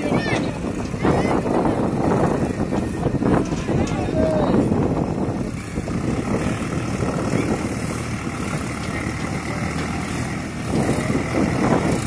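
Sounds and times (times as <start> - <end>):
tractor diesel engines running: 0.0 - 12.0.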